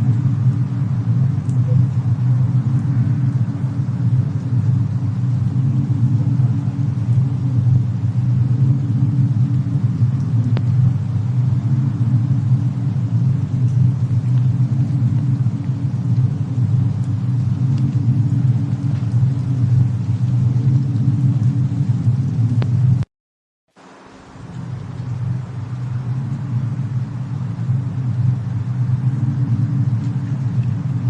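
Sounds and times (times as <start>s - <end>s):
fire crackles: 0.0s - 23.1s, 23.7s - 31.0s
steady low rumble: 0.0s - 23.1s, 23.8s - 31.0s.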